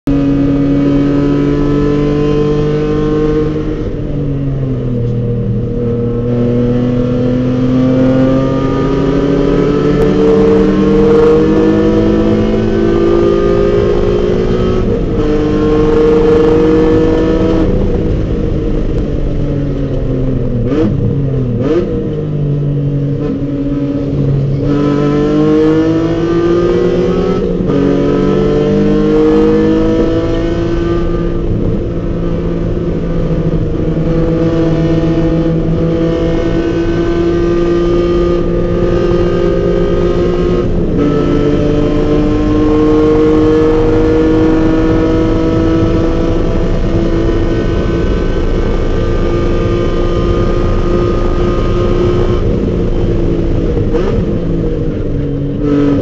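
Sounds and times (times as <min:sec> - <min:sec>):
car engine accelerating hard: 0:00.1 - 0:56.0.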